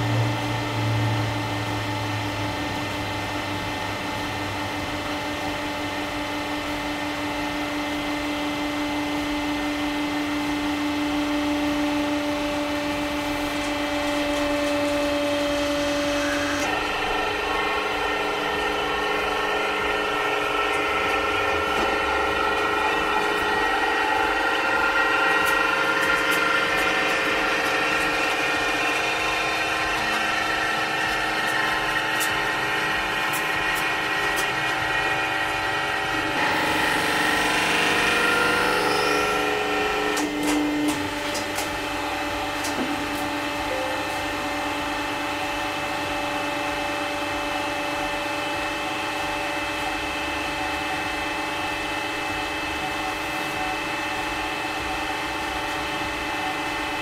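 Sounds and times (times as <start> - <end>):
hydraulic press whine: 0.0 - 57.0.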